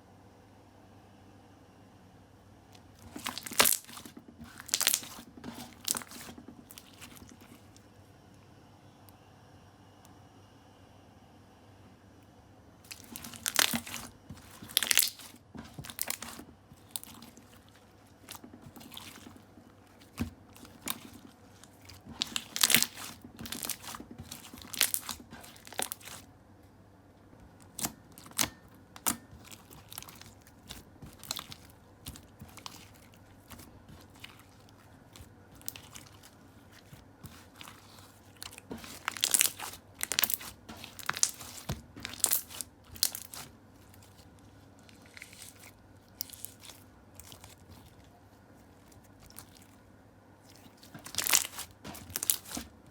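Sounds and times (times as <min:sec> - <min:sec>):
slime squeezed crackling: 0:02.8 - 0:07.8, 0:12.9 - 0:26.3, 0:27.4 - 0:52.9.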